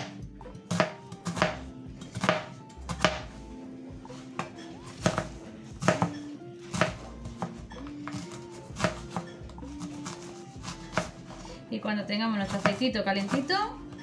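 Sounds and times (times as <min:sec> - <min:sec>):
knife chopping onion on board: 0:00.0 - 0:03.4, 0:04.3 - 0:11.4, 0:12.5 - 0:13.6.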